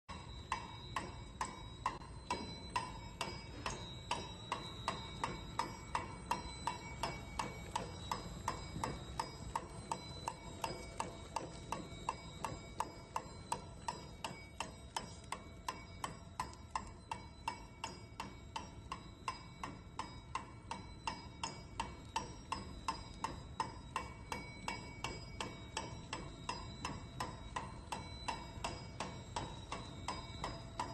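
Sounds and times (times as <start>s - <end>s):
machine whir: 0.1s - 30.9s.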